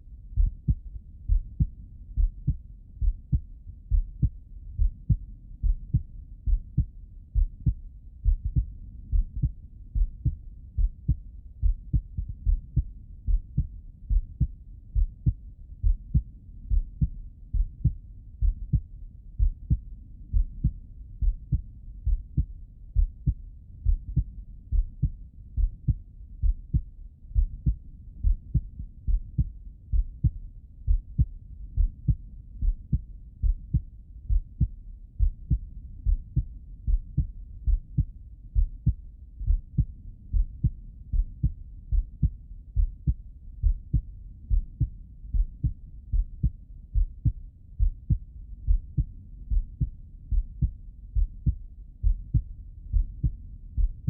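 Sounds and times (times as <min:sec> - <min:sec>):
heartbeat thuds: 0:00.4 - 0:54.0.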